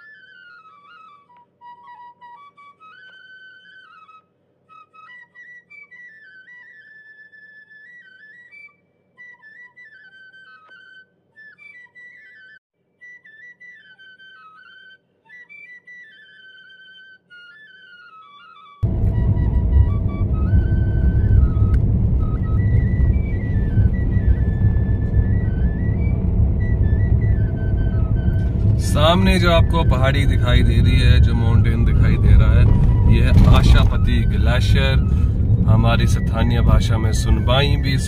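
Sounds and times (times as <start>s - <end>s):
flute melody: 0.0s - 38.0s.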